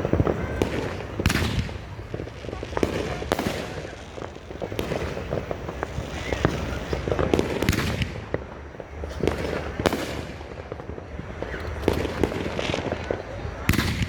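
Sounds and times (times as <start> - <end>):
firework crackle: 0.0 - 14.0.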